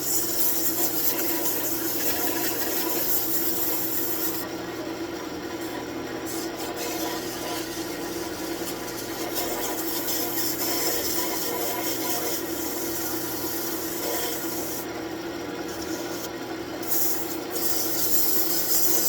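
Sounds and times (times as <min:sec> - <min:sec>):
tool rasping on spinning wood: 0:00.0 - 0:04.5, 0:06.3 - 0:14.9, 0:15.7 - 0:19.0
lathe motor hum: 0:00.0 - 0:19.0.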